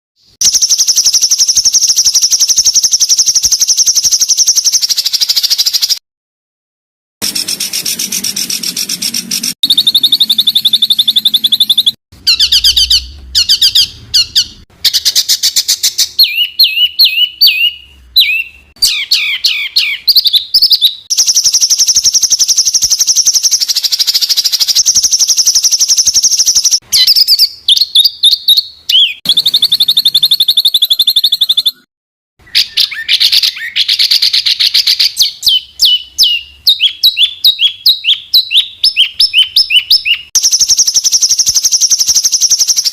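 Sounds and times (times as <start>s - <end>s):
songbirds chirping and trilling: 7.2s - 42.9s.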